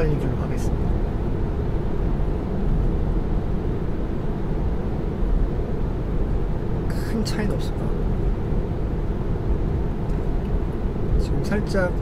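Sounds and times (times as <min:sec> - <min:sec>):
car road and tyre noise: 0:00.0 - 0:12.0.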